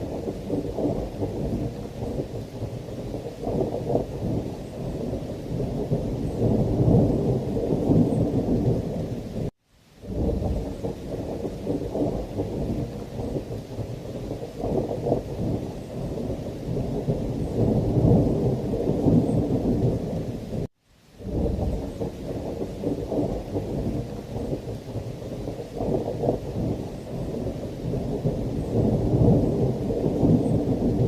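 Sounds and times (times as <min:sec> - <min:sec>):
heavy rain: 0:00.0 - 0:31.0
low rolling thunder: 0:00.0 - 0:31.0.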